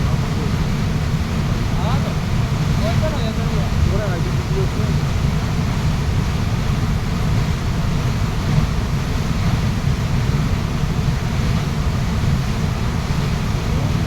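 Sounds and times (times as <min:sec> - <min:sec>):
waterfall rushing water: 0:00.0 - 0:14.0.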